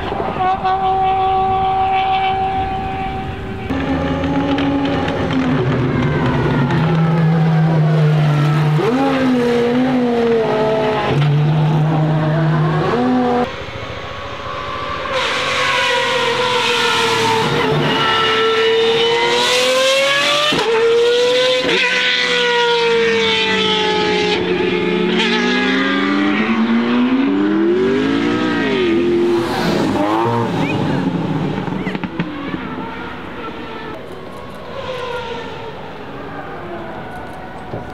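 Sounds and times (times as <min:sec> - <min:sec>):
loud car engine accelerating: 0:03.5 - 0:37.9.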